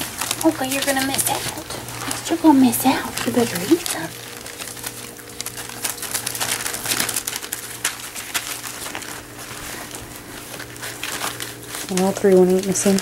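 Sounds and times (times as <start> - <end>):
puppies chewing and smacking: 0.0 - 13.0
steady low hum: 0.0 - 13.0.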